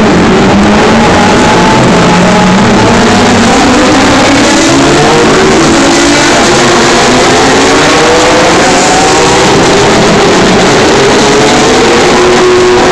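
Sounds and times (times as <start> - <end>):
race cars passing at speed: 0.0 - 12.9.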